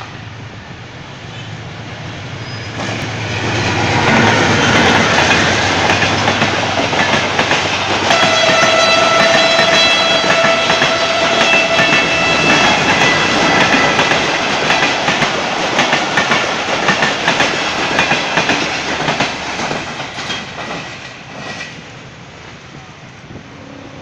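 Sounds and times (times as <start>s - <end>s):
train coaches rushing past: 0.0s - 24.0s
wheels clacking over rail joints: 2.5s - 21.8s.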